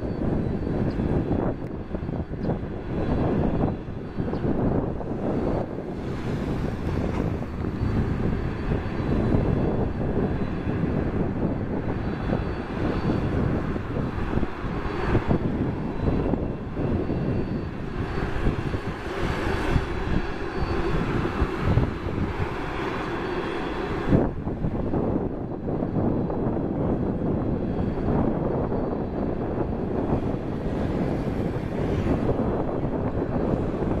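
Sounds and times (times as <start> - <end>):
jet engines rumbling with whine: 0.0 - 34.0.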